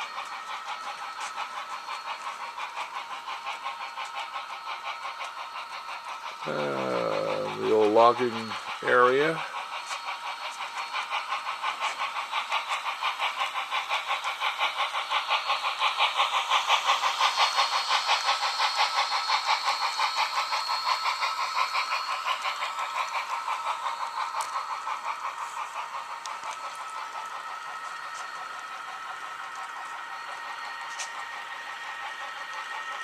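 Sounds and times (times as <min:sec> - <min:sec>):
model train clattering on track: 0:00.0 - 0:33.0.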